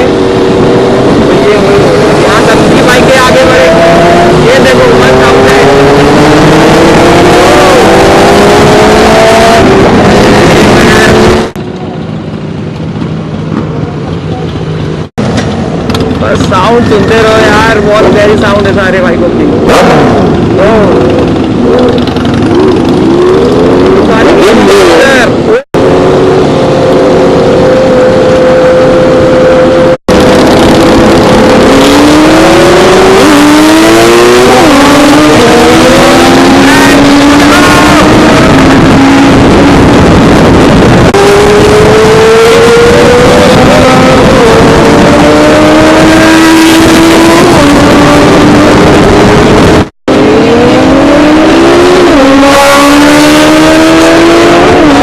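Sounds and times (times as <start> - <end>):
motorcycles running hard and upshifting: 0.0 - 55.0.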